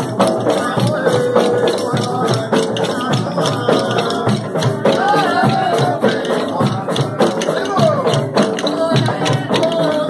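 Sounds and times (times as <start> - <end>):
frame drums and rattles: 0.0 - 10.0
voices singing: 0.0 - 10.0.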